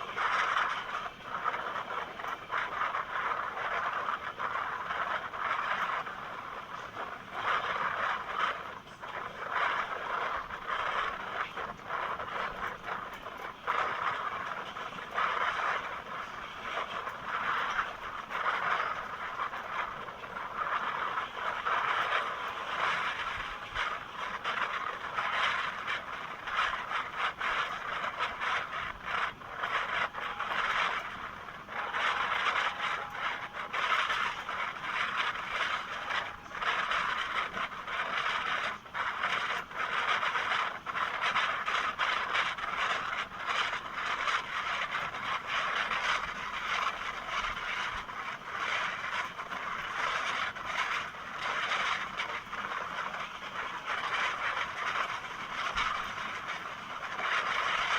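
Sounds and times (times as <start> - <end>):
clicks and rattles of train: 0.0 - 57.9
train wheels rushing on rails: 0.0 - 57.9.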